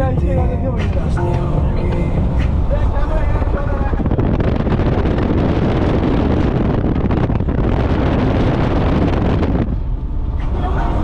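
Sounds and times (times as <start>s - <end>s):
car wind and road noise: 0.0s - 11.0s
wind buffeting microphone: 0.0s - 11.0s.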